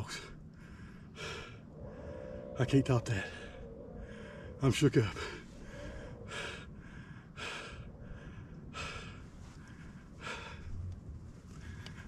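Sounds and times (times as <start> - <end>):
man breathing heavily: 0.4 - 2.6, 3.3 - 12.0.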